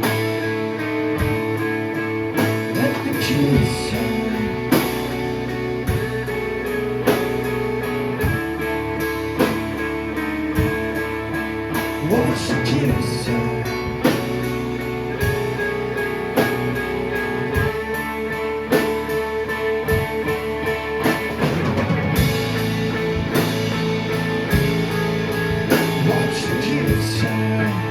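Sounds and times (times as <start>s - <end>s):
drum kit: 0.0s - 27.9s
ringing guitar chords: 0.0s - 27.9s.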